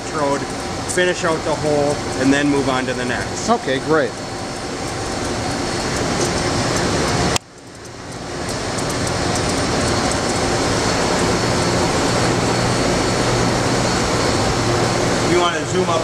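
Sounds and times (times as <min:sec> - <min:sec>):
pump hiss and hum: 0:00.0 - 0:16.0.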